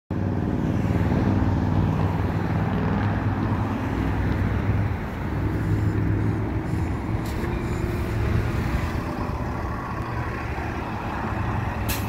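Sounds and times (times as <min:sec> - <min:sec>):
bus engine drone: 0:00.1 - 0:12.0
road noise: 0:00.1 - 0:12.0.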